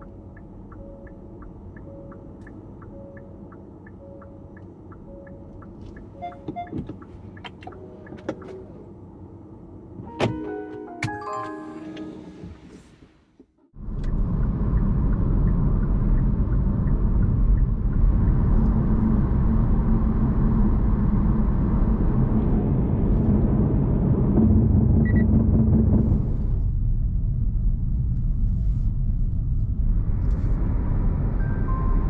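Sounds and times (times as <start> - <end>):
vehicle rumble in motion: 0.0 - 32.0.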